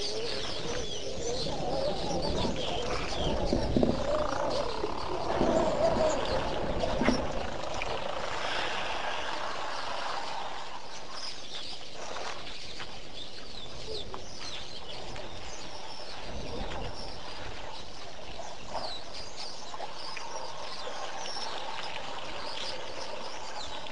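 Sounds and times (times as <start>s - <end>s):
birds chirping: 0.0s - 23.9s
steady outdoor hiss: 0.0s - 23.9s.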